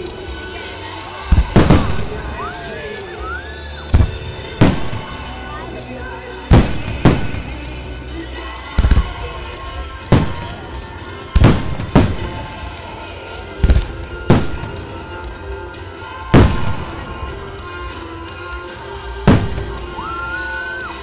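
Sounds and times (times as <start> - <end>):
background music: 0.0 - 21.0
fireworks bangs: 0.8 - 21.0.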